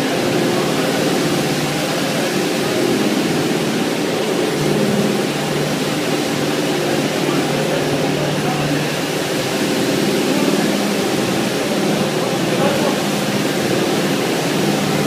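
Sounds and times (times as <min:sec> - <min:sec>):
carpet washing machine scrubbing: 0:00.0 - 0:15.0.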